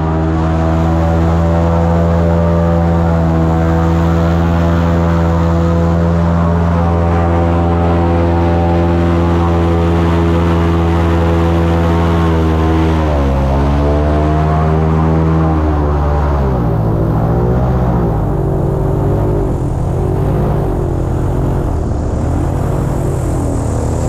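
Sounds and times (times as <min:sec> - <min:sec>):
airboat engine and propeller drone: 0:00.0 - 0:24.0.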